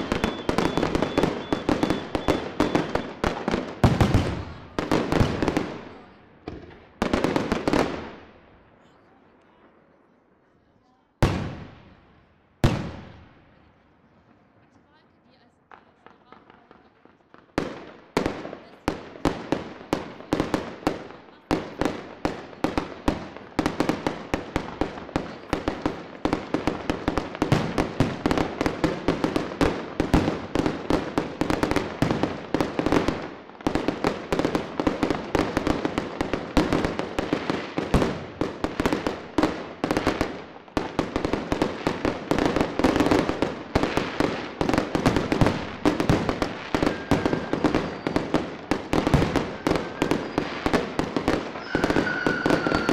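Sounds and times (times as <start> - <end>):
fireworks bangs echoing: 0.0 - 10.0, 11.2 - 52.9.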